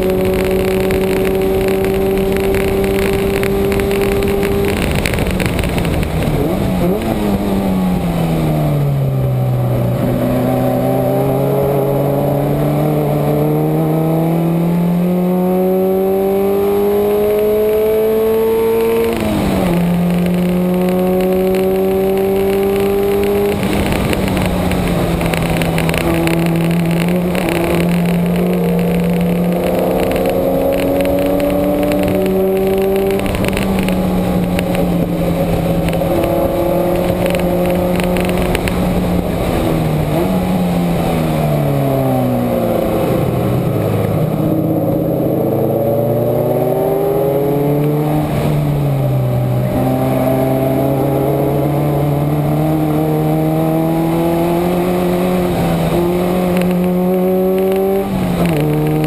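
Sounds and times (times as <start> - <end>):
wind rush: 0.0 - 13.6, 18.2 - 59.0
car engine running hard: 0.0 - 59.0.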